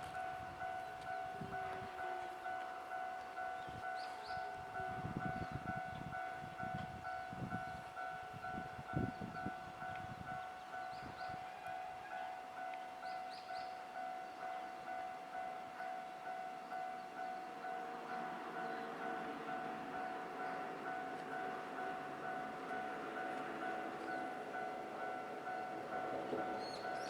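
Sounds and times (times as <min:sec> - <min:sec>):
level crossing warning bell: 0:00.0 - 0:27.0.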